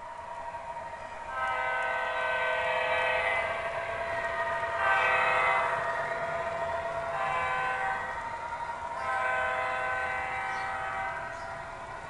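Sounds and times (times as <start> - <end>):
model locomotive horn: 1.3 - 11.7.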